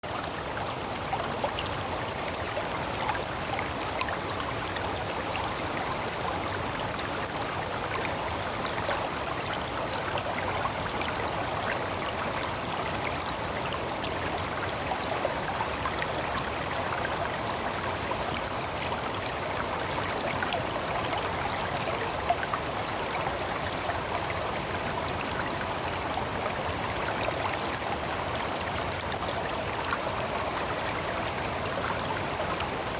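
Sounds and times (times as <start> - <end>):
stream flowing over rocks: 0.0 - 32.9.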